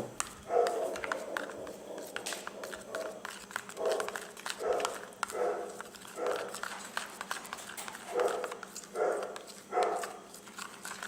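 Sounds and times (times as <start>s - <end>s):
spoon squelching sticky mix: 0.1s - 11.0s.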